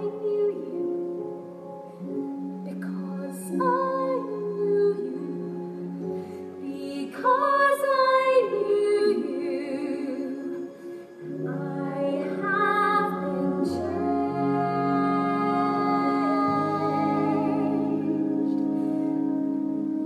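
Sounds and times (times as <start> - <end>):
person singing: 0.0 - 1.4, 2.0 - 20.0
orchestra playing sustained chords: 0.0 - 20.0.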